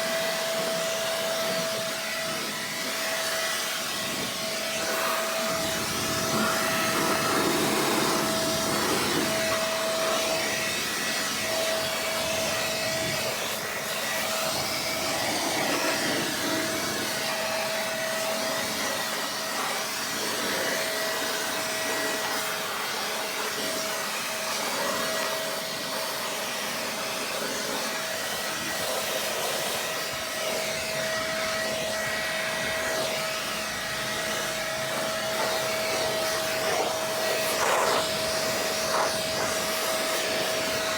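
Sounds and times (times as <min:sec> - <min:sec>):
electric air blower running: 0:00.0 - 0:40.9.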